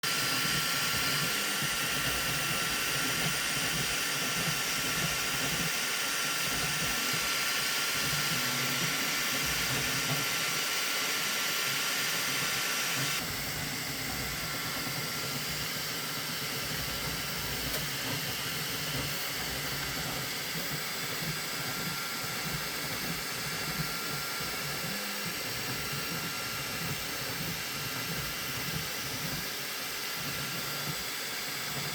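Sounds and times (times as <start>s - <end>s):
three d printer whirring: 0.0s - 31.9s.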